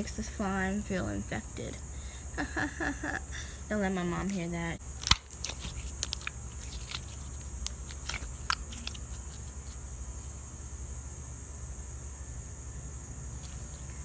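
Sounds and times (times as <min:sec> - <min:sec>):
background hiss and low hum: 0:00.0 - 0:14.0.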